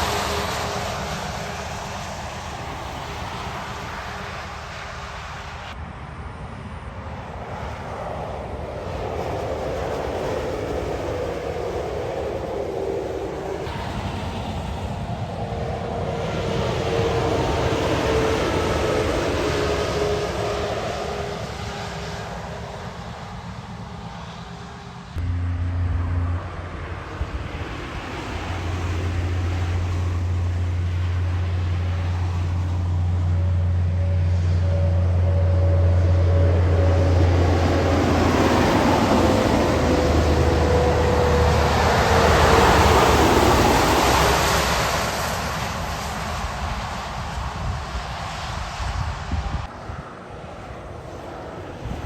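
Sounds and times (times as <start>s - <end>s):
truck engine drone: 0.0s - 47.0s.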